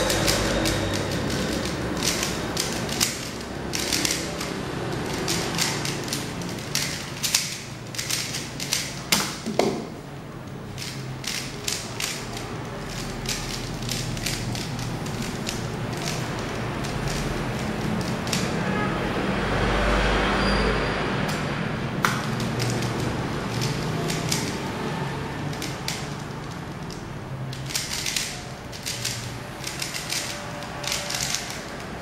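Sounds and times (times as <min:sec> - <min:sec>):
plastic cube clicking: 0:00.0 - 0:18.5, 0:22.0 - 0:24.7, 0:25.5 - 0:32.0.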